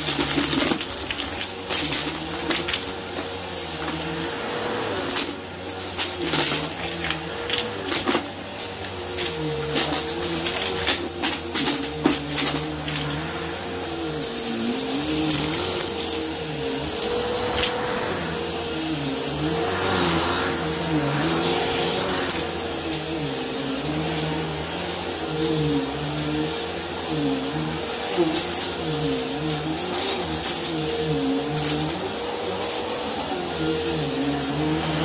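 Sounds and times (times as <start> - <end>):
vacuum cleaner whining and humming: 0.0 - 35.0.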